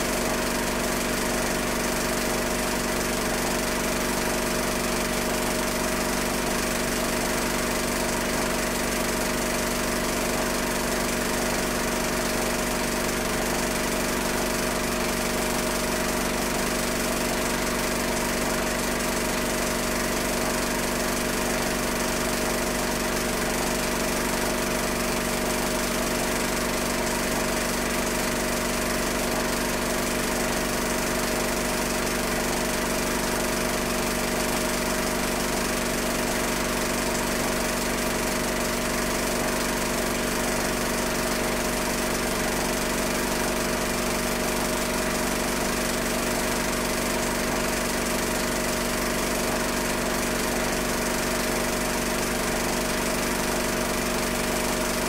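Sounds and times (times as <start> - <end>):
film projector running: 0.0 - 55.0.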